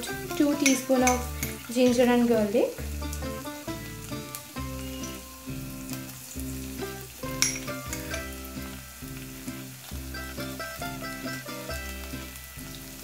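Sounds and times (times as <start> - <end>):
background music: 0.0 - 13.0
garlic sizzling in hot oil: 0.0 - 13.0
oil crackles and pops: 0.0 - 13.0.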